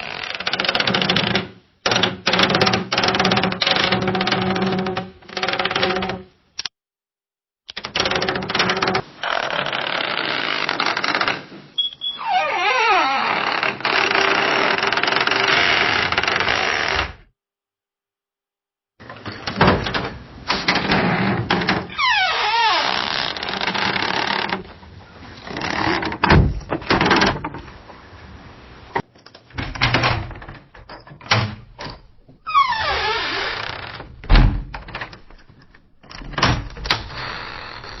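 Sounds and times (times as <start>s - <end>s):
door hinges creaking: 0.0s - 6.3s, 7.7s - 17.3s, 19.0s - 27.7s, 29.4s - 38.0s.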